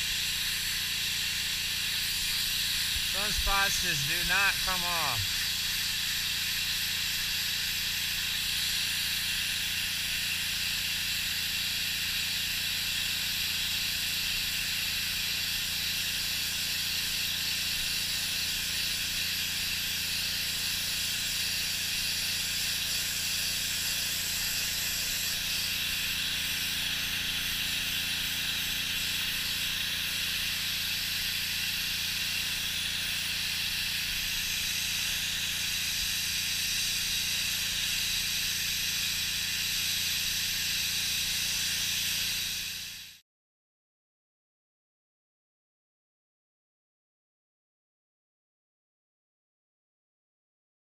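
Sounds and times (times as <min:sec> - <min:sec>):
pressure washer jet hissing: 0:00.0 - 0:43.2.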